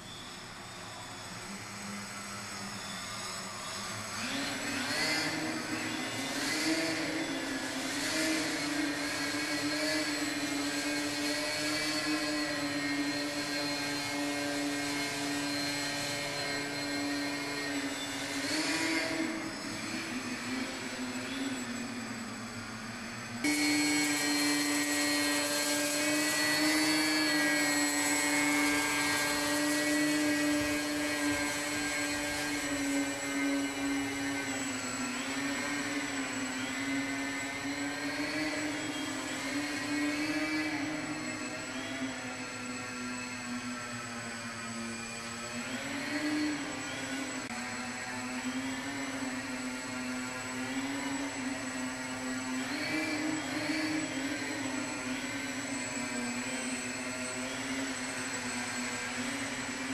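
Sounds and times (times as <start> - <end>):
model plane motor whining: 0.0 - 59.9.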